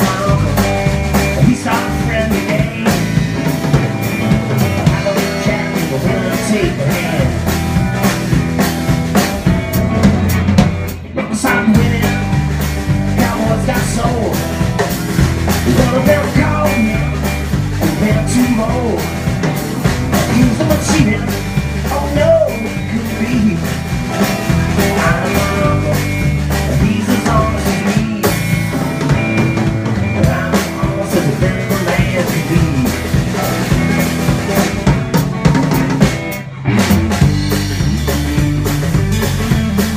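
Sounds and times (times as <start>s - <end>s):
live country-rock band: 0.0s - 39.9s.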